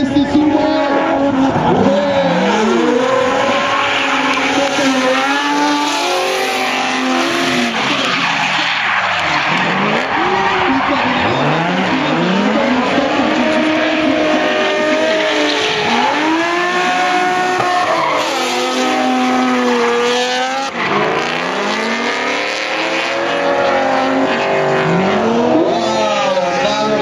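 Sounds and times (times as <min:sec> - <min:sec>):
car engines revving: 0:00.0 - 0:27.0
tyres squealing: 0:01.6 - 0:27.0.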